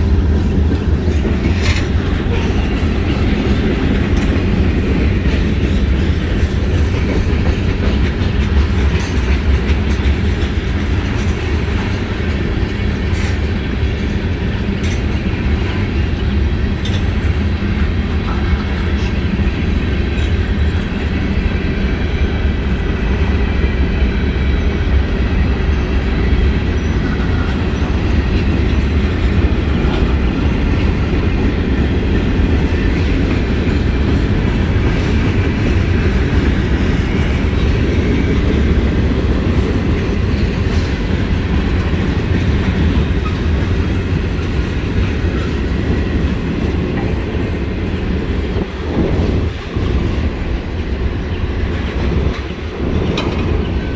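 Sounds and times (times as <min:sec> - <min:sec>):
freight train rumbling past: 0:00.0 - 0:53.9
train cars clickety-clack: 0:00.0 - 0:53.9.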